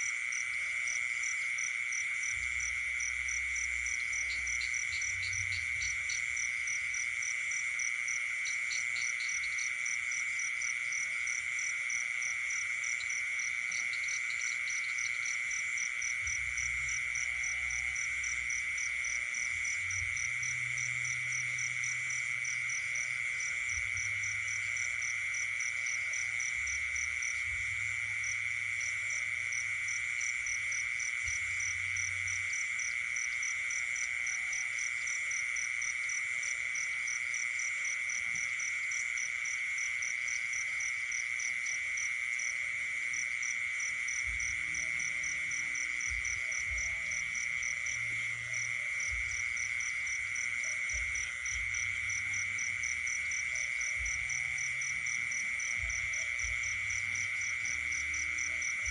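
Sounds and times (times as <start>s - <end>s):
high frog and insect trill: 0.0s - 58.9s.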